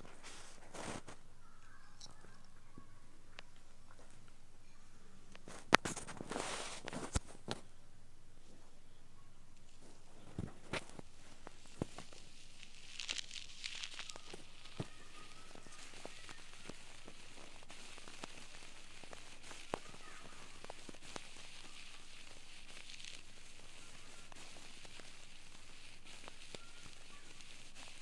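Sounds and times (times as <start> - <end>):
ear pick crackles and clicks: 0.0 - 28.0
steady hiss: 0.0 - 28.0.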